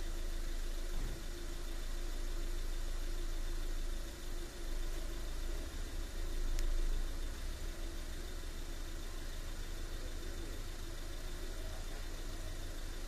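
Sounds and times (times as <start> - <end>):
engine idling: 0.0 - 13.0
faint steady hum: 0.0 - 13.0.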